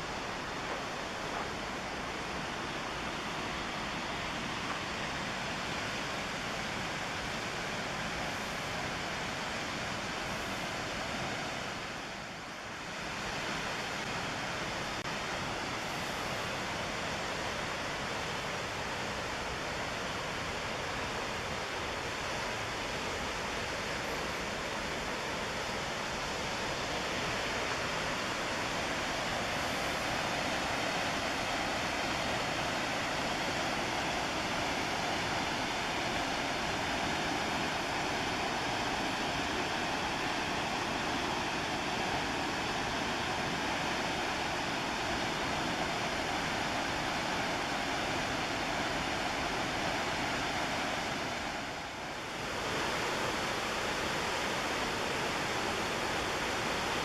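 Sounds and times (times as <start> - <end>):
white water rushing: 0.0 - 57.0.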